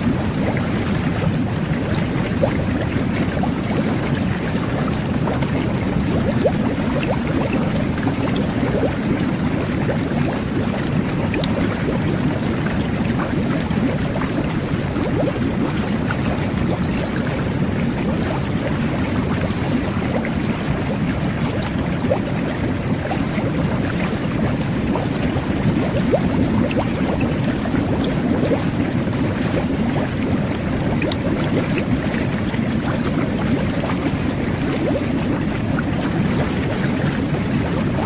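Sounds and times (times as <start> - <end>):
jet bath bubbling water: 0.0 - 38.0.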